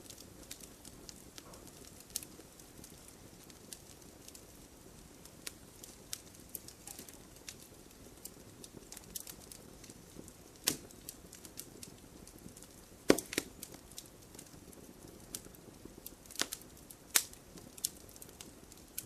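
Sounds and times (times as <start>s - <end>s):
faint low hiss: 0.0s - 19.0s
wood fire crackling: 0.0s - 19.0s.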